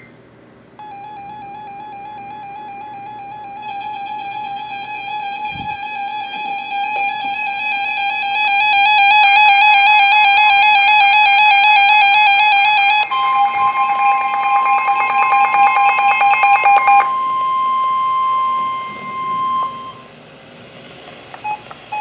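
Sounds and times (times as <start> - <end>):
weather radio alarm tone: 0.8 - 20.1
steady electronic tone: 0.8 - 20.2.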